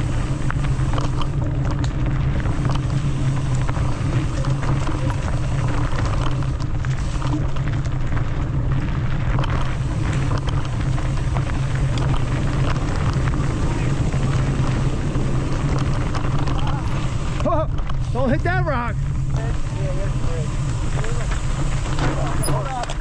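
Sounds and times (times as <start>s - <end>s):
bike rattling and knocking: 0.0s - 23.0s
wind and tyre noise: 0.0s - 23.0s.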